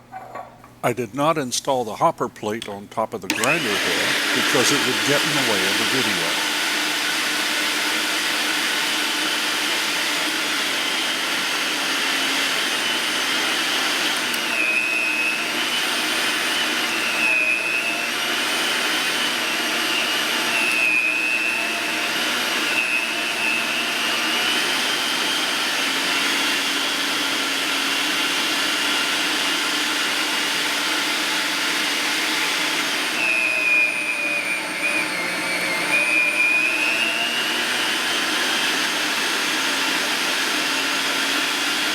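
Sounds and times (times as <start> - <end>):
electric meat grinder motor whining: 3.3 - 41.9.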